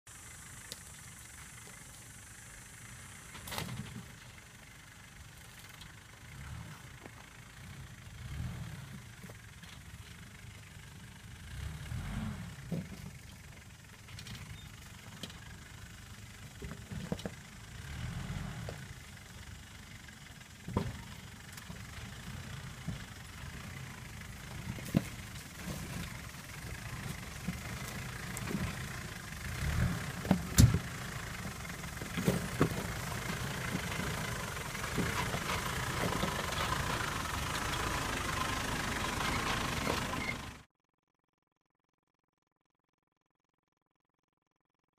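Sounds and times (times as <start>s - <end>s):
truck engine rumble: 0.0s - 40.7s
suspension clunking over rocks: 0.4s - 40.6s.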